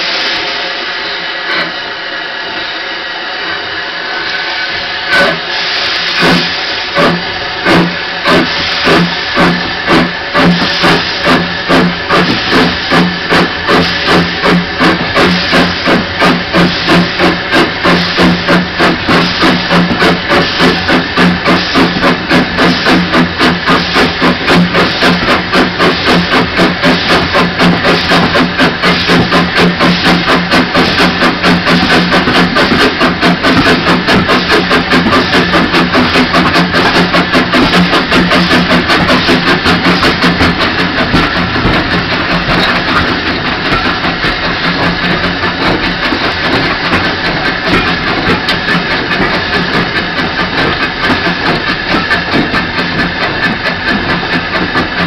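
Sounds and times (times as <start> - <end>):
steam hissing: 0.0 - 55.0
steam locomotive exhaust chuffing: 0.0 - 55.0.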